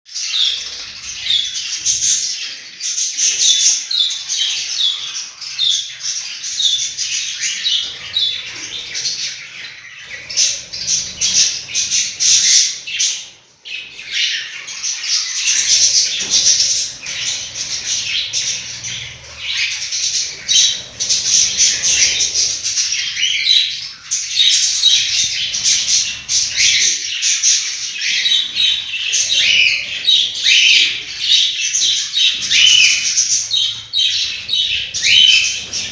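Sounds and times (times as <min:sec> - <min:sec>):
budgerigars chattering: 0:00.2 - 0:35.9.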